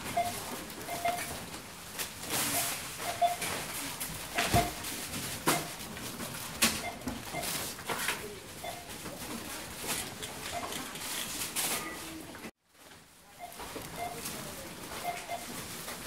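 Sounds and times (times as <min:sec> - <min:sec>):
checkout scanner beeping: 0:00.1 - 0:01.5, 0:02.2 - 0:10.8, 0:11.6 - 0:12.5, 0:13.4 - 0:16.0.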